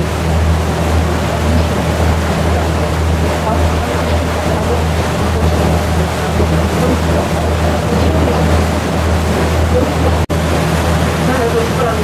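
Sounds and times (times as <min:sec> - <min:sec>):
motorboat engine humming: 0:00.0 - 0:12.0
water rushing past: 0:00.0 - 0:12.0.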